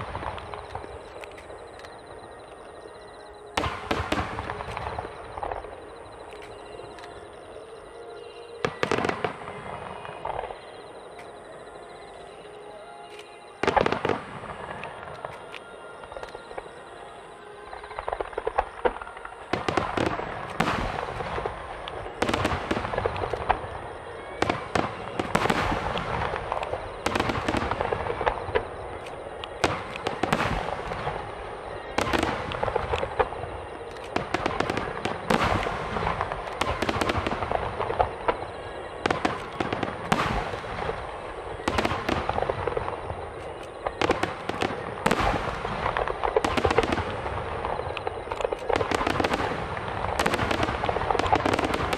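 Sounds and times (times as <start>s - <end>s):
fireworks bangs: 0.0s - 7.4s, 8.5s - 11.6s, 13.6s - 15.6s, 17.9s - 51.9s
fireworks crackling: 0.0s - 7.6s, 8.6s - 11.4s, 13.1s - 16.8s, 17.7s - 51.9s.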